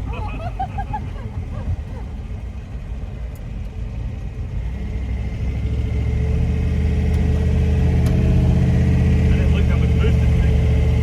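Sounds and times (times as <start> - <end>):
pickup engine pulling: 0.0 - 11.0.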